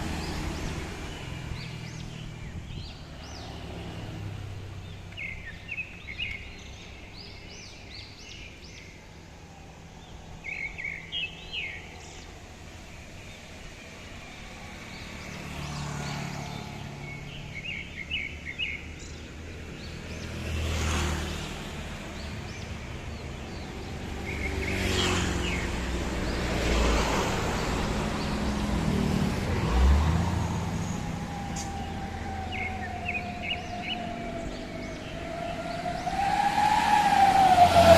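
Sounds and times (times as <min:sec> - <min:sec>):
birds chirping: 0:00.0 - 0:37.9
road traffic: 0:00.0 - 0:37.9
vehicles passing: 0:00.0 - 0:37.9.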